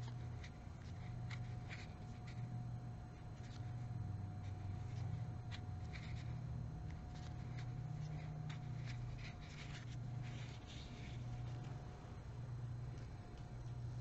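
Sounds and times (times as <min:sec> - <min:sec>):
crochet hook scratching yarn: 0:00.0 - 0:11.9
steady low hum: 0:00.0 - 0:14.0.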